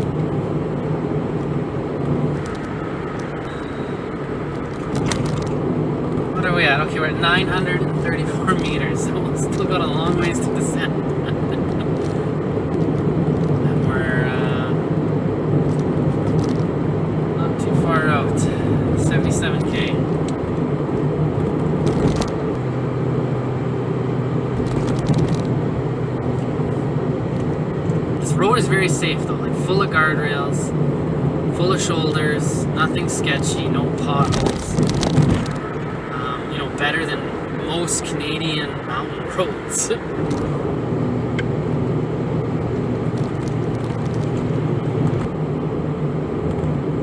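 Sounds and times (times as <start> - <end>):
van engine and tyre hum: 0.0 - 47.0.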